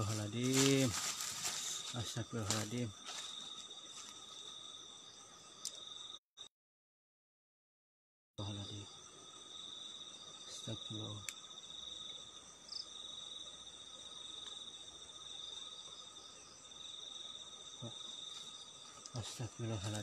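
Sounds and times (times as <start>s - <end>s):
insect chorus trilling: 0.0s - 6.2s, 8.4s - 20.0s.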